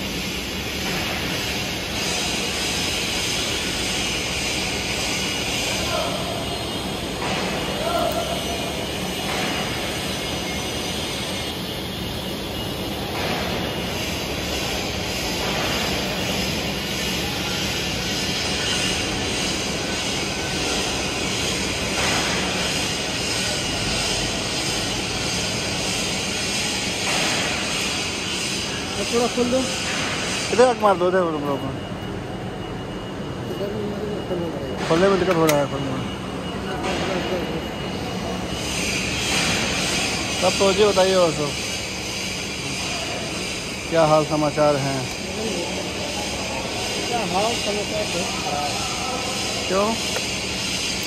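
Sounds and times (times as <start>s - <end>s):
welding arc hissing: 0.0s - 31.2s, 38.5s - 51.0s
workshop drone: 0.0s - 51.0s.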